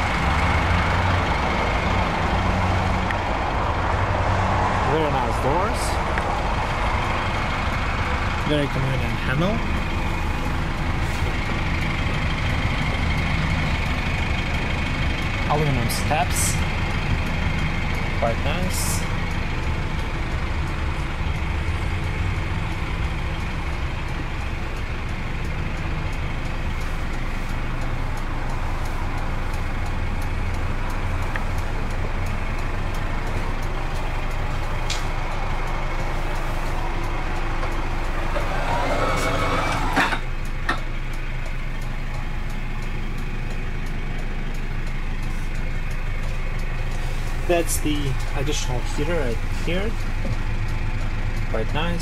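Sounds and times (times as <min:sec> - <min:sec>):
minibus engine idling: 0:00.0 - 0:52.0.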